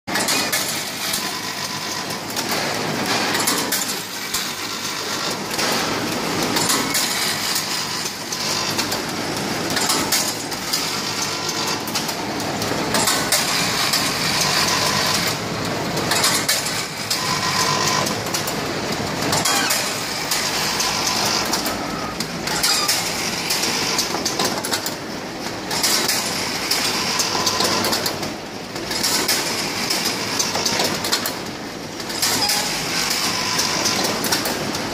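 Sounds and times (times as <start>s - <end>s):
packing machine clattering: 0.1s - 34.9s.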